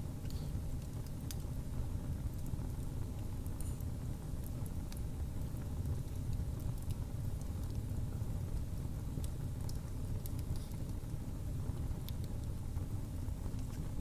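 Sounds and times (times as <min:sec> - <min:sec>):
fire crackling and popping: 0:00.0 - 0:14.0
flames rumbling: 0:00.0 - 0:14.0.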